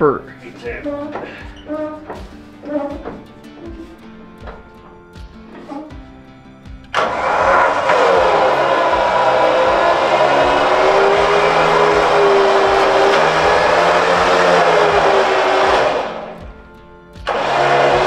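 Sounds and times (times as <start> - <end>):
background music with bending tones: 0.0 - 18.0.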